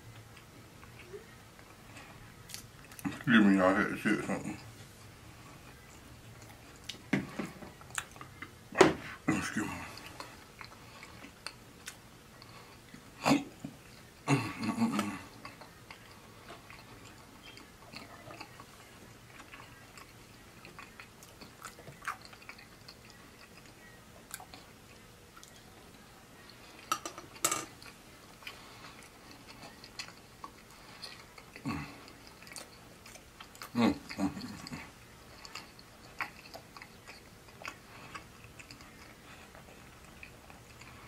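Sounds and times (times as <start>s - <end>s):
chewing fried chicken: 0.0s - 41.0s.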